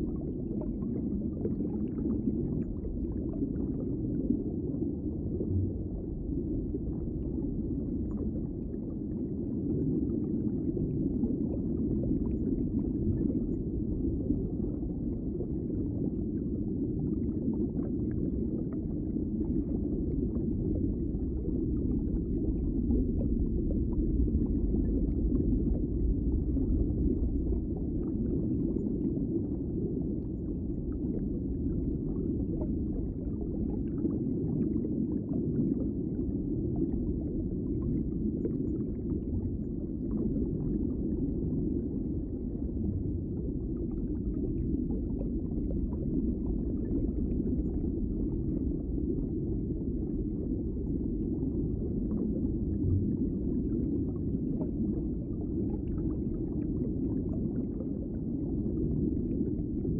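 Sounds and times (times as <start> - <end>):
low underwater rumble: 0.0 - 59.9.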